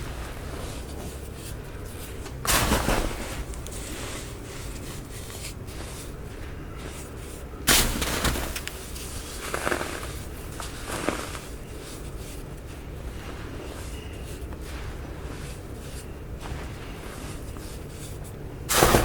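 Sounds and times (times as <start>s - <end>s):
baking soda crunching: 0.0s - 19.0s.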